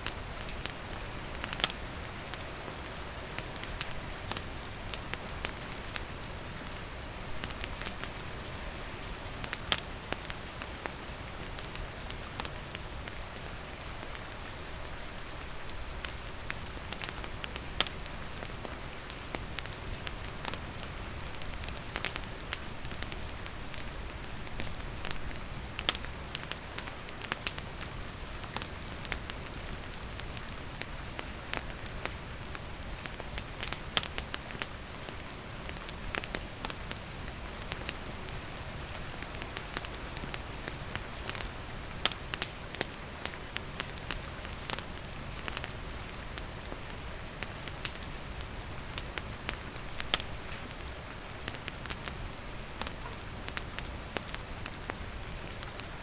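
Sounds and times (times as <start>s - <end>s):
steady rain falling: 0.0s - 56.0s
wood fire crackling: 0.0s - 56.0s.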